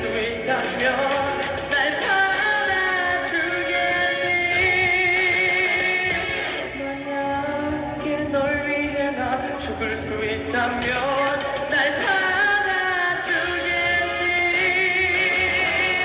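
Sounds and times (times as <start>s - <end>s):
man singing a ballad: 0.0s - 16.0s
musical accompaniment: 0.0s - 16.0s.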